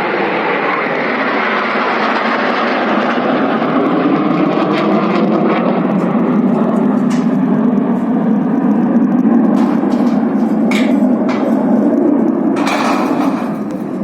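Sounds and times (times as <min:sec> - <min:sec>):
aircraft engine flying by: 0:00.0 - 0:14.0.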